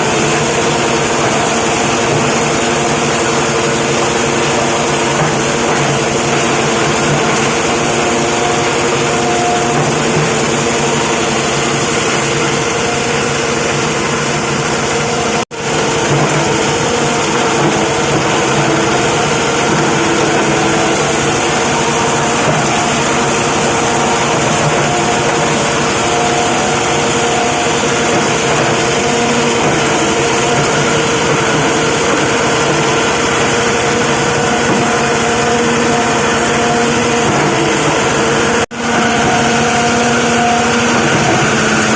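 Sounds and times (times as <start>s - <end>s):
plastic crusher machine running: 0.0s - 41.9s.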